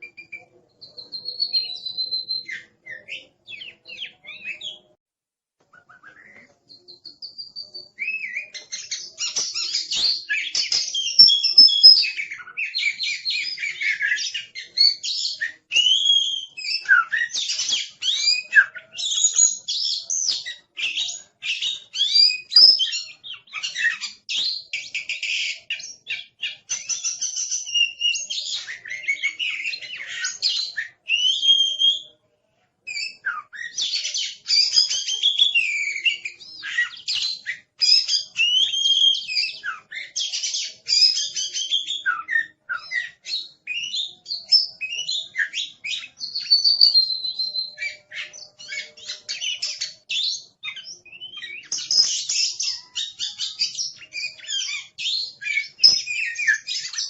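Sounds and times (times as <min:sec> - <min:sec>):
songbird singing whistles and trills: 0:00.0 - 0:05.0, 0:05.6 - 0:32.2, 0:32.8 - 0:57.0.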